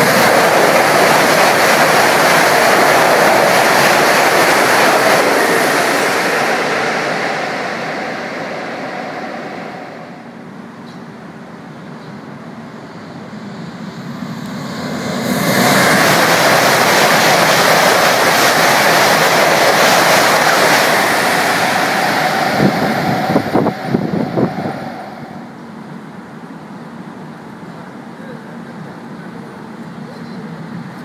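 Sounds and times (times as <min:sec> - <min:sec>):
high-speed train rushing past: 0:00.0 - 0:31.0.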